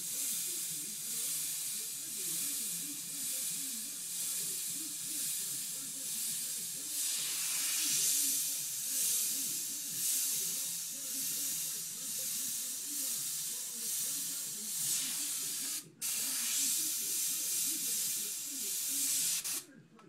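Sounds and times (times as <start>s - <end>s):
airbrush spraying hiss: 0.0s - 19.8s.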